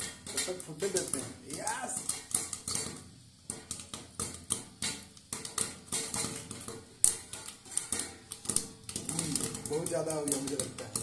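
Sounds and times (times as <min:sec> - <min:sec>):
popcorn popping in pot: 0:00.0 - 0:11.0.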